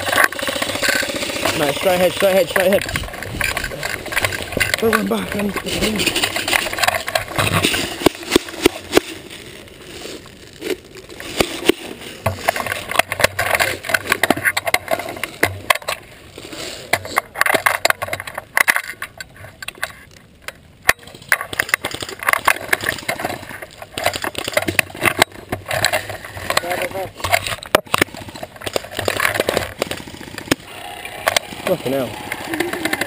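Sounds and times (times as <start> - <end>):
gun and sling rattling: 0.0 - 16.0, 16.8 - 33.0.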